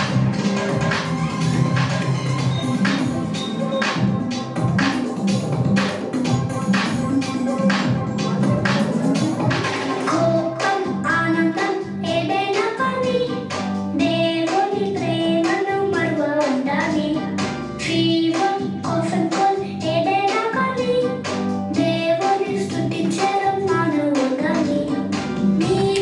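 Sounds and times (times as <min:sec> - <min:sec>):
backing track with steady beat: 0:00.0 - 0:26.0.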